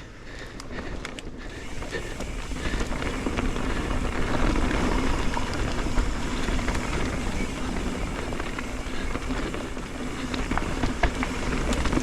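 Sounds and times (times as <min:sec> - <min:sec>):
bike tyres rolling on dirt: 0:00.0 - 0:12.0.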